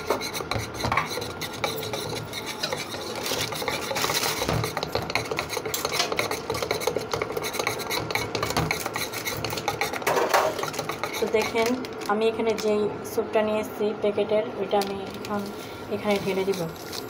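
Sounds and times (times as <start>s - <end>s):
spoon stirring mixture in bowl: 0.0s - 12.8s, 14.8s - 17.0s.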